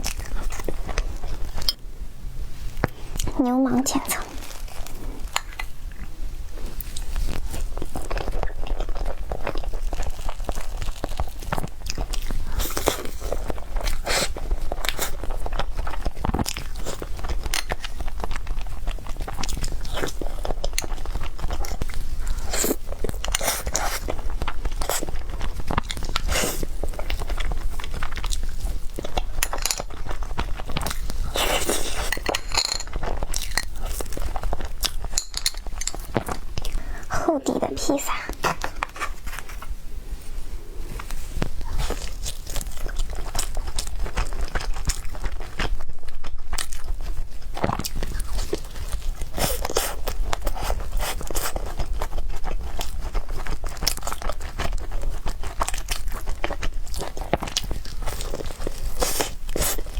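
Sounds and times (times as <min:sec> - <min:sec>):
crunchy chewing: 0:00.0 - 0:01.8, 0:04.0 - 0:37.1, 0:40.7 - 0:59.9.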